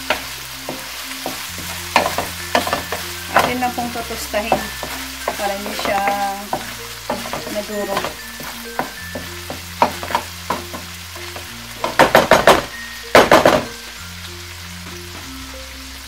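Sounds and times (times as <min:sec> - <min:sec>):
wooden spatula scraping a wok: 0:00.0 - 0:13.8
light sizzle of oil: 0:00.0 - 0:16.0.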